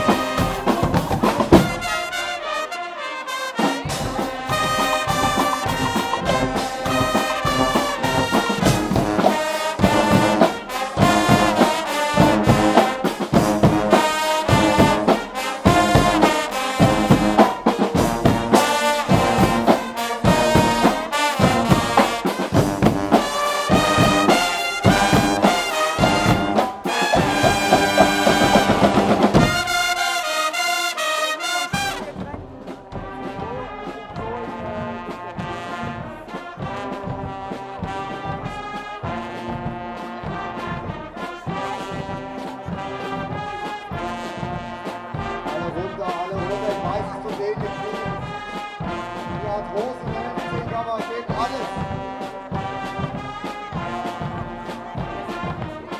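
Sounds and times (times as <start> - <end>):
pounding drum beat: 0.0 - 2.6, 3.6 - 55.9
trumpets and trombones: 0.0 - 55.9.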